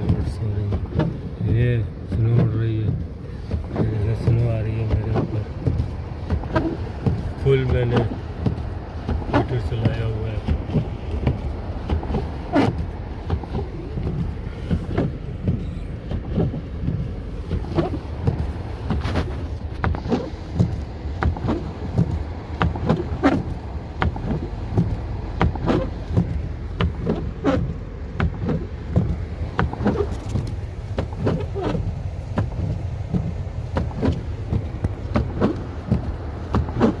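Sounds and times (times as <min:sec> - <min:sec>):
car engine and road rumble: 0:00.0 - 0:37.0
knocks and clicks: 0:00.0 - 0:37.0.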